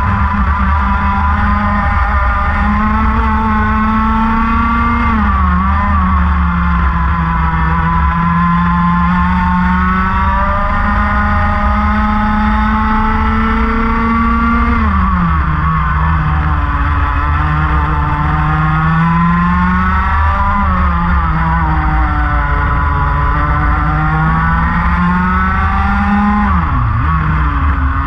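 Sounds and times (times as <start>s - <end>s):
kart engine revving: 0.0s - 28.0s.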